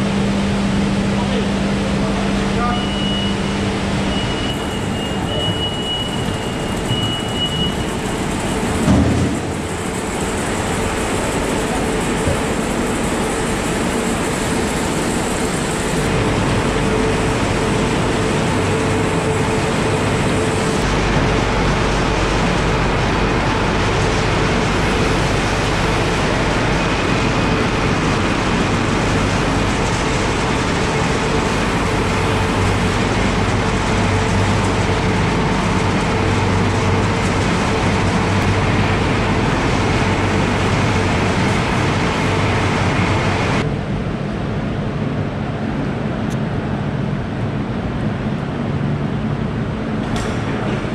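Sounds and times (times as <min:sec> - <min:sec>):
conveyor belts and motors running: 0:00.0 - 0:50.9
steady hum: 0:00.0 - 0:50.9.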